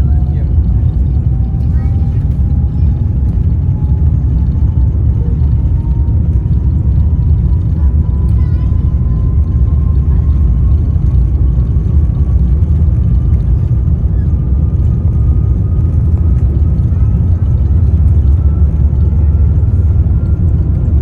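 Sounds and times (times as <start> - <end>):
jet engines rumbling at take-off: 0.0 - 21.0.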